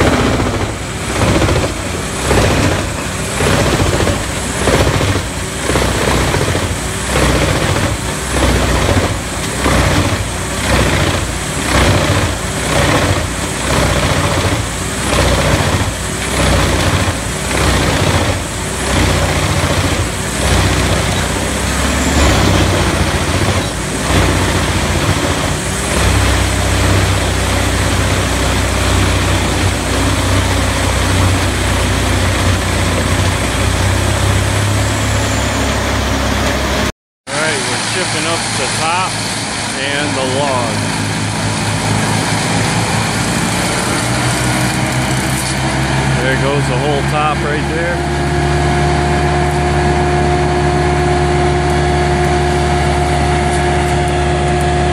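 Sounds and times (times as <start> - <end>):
high whine: 0.0 - 54.9
wood chipper engine under load: 0.0 - 54.9.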